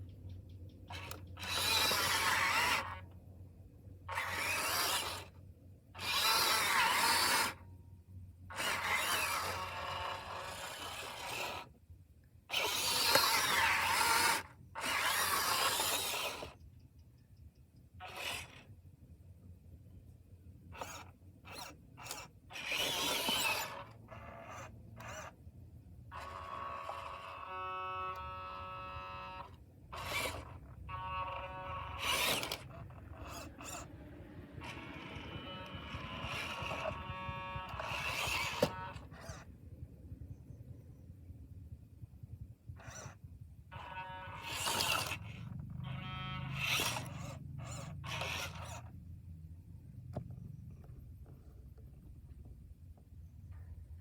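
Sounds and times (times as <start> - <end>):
electric motor and gears whirring: 0.9 - 3.2, 4.0 - 7.8, 8.4 - 11.8, 12.4 - 16.6, 18.0 - 19.0, 19.9 - 54.0
steady motor whine: 0.9 - 7.8, 8.4 - 11.9, 12.5 - 16.6, 18.0 - 18.8, 20.7 - 41.2, 42.0 - 52.6.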